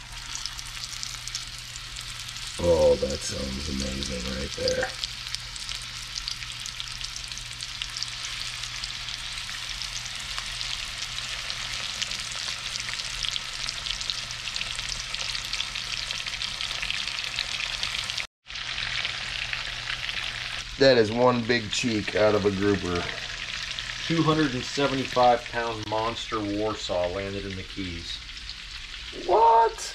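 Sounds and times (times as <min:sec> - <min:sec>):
fish sizzling in a frying pan: 0:00.0 - 0:29.7.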